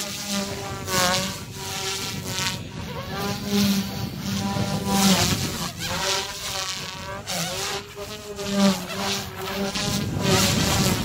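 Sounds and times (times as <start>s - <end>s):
rc helicopter rotor buzz: 0.0s - 11.0s.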